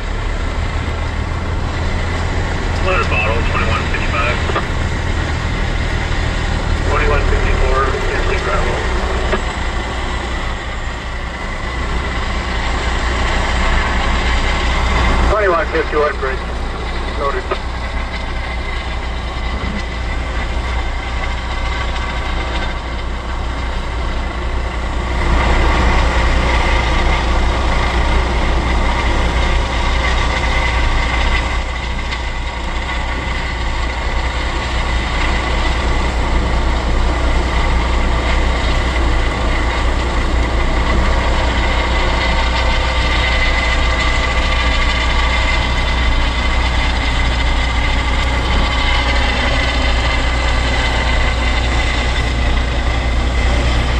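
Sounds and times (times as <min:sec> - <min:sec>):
helicopter whine and rumble: 0:00.0 - 0:53.9.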